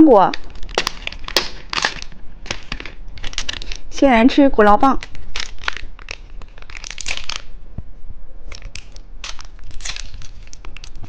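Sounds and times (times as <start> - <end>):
hard candy crunching: 0.1 - 3.9, 5.0 - 7.6, 8.5 - 11.0.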